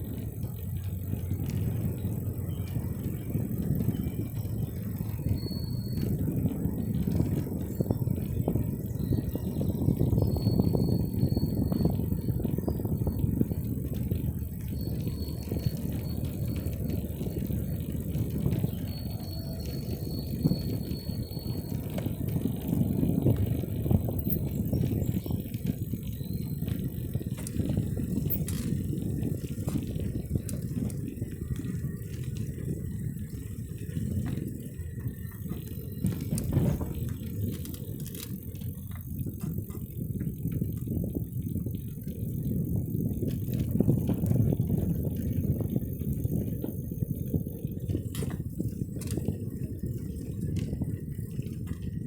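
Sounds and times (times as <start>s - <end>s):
bicycle low rumble: 0.0s - 52.0s
light rattles and clicks: 0.0s - 52.0s
wind buffeting microphone: 0.0s - 52.0s.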